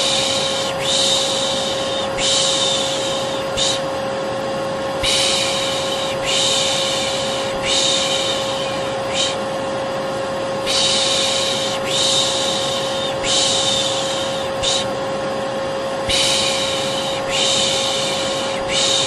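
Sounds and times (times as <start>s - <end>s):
person shushing: 0.0s - 3.9s, 5.0s - 9.5s, 10.7s - 15.0s, 16.0s - 19.0s
vacuum cleaner running: 0.0s - 19.0s.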